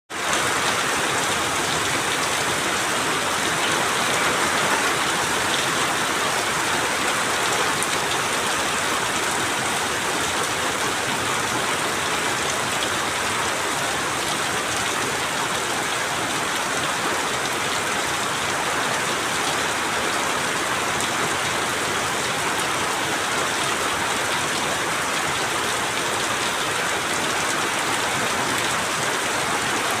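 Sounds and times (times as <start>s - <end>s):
steady rainfall: 0.1s - 30.0s.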